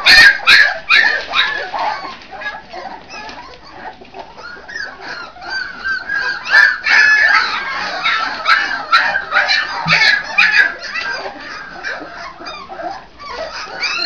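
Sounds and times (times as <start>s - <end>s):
puppies yelping and squealing: 0.0s - 14.0s.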